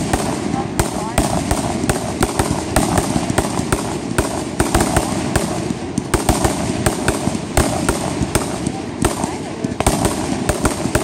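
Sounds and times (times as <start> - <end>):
continuous hiss: 0.0 - 11.0
fireworks bangs: 0.0 - 11.0.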